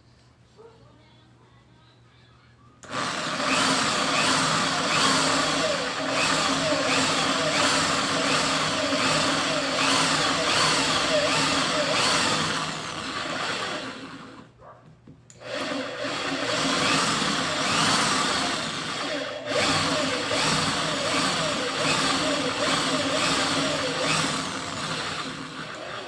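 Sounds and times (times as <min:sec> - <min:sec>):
mini drill press whining: 0:02.8 - 0:14.6, 0:15.3 - 0:26.0.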